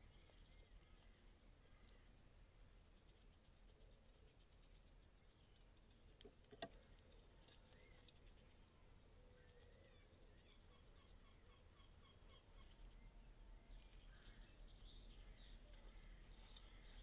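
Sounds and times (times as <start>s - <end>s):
faint bird chirps: 0.0s - 6.1s, 6.7s - 17.0s.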